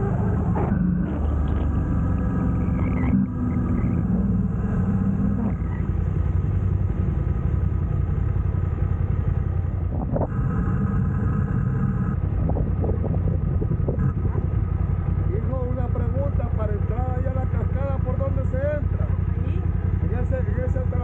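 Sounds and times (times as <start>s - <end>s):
low road rumble: 0.0s - 21.0s
vehicle engine running: 0.0s - 21.0s.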